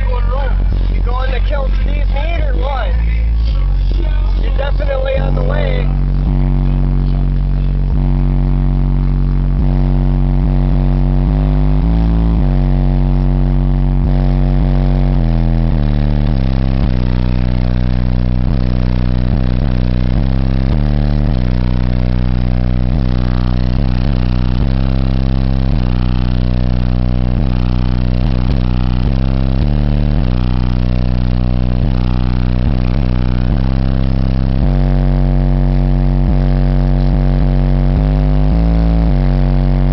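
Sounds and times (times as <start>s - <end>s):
deep bass music: 0.0s - 39.9s.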